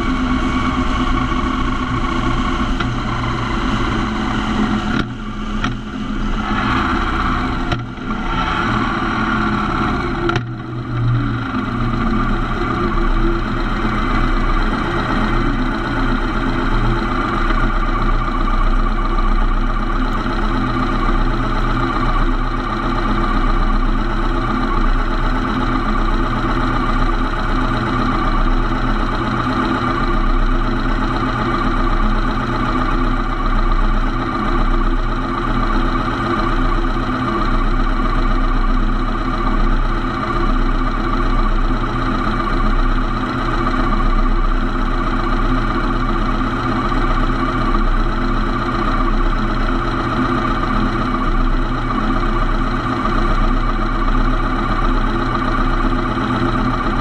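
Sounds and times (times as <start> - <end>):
motorcycle engine idling: 0.0 - 8.3, 8.9 - 57.0.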